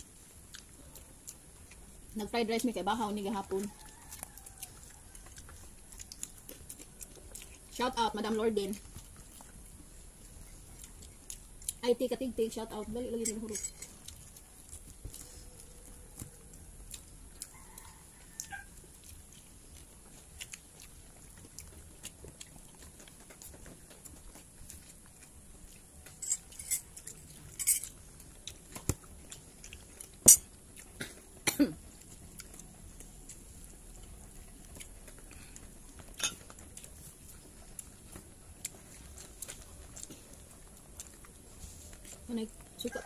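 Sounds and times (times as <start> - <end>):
quiet chewing: 0.0 - 43.0.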